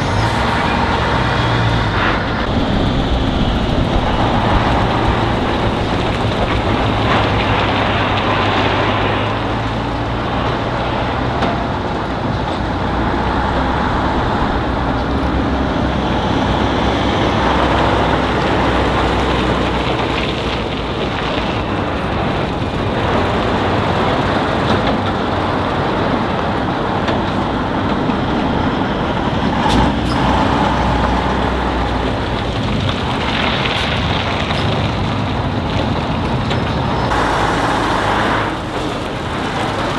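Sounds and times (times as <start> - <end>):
heavy trucks driving past: 0.0 - 39.9.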